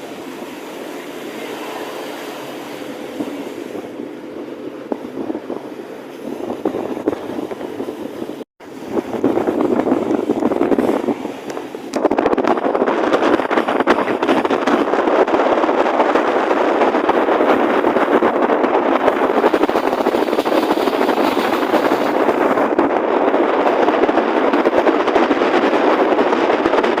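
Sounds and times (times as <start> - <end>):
motorboat engine running: 0.0 - 27.0.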